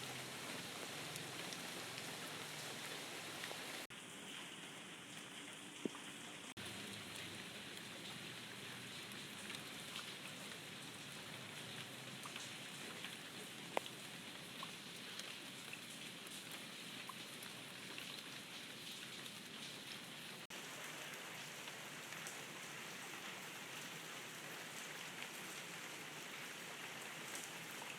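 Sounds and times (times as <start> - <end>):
steady rain: 0.0 - 27.9.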